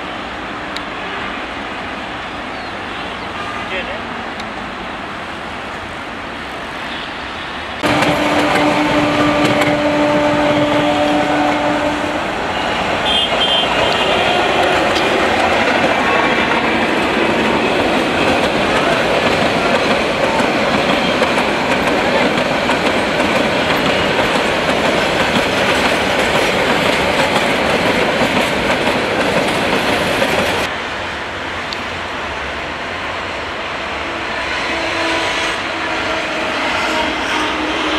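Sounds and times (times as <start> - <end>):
train coaches rumbling and rattling: 1.6 - 37.9.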